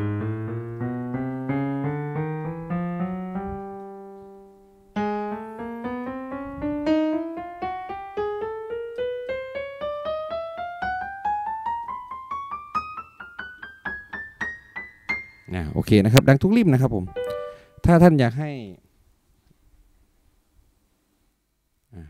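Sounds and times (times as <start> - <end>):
keyboard piano notes: 0.0 - 18.2.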